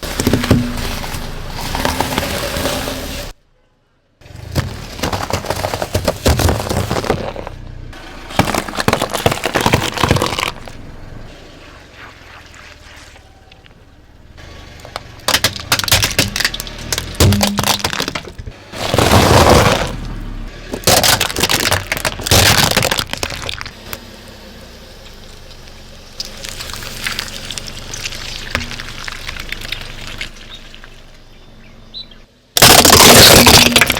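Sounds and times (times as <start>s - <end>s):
objects crunching under car tyres: 0.0s - 3.4s, 4.2s - 24.0s, 25.0s - 33.9s.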